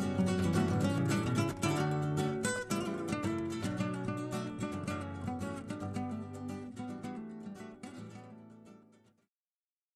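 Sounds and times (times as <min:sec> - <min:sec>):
acoustic guitar playing: 0:00.0 - 0:09.2.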